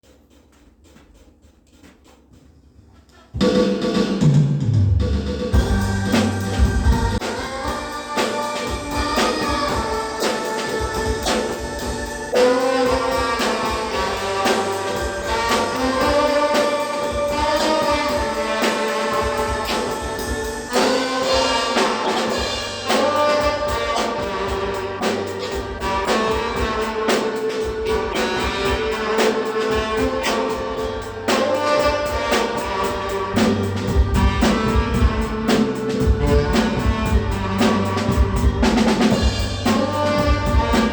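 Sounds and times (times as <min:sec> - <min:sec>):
drum kit: 0:00.0 - 0:40.9
tenor saxophone melody: 0:05.6 - 0:40.9.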